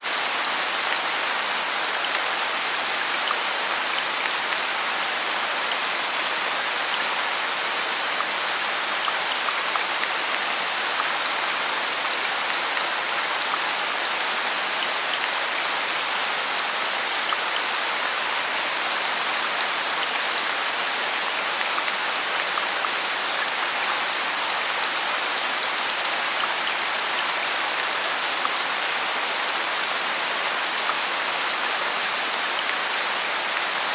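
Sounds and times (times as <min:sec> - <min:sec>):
heavy rain on foliage: 0:00.0 - 0:33.9.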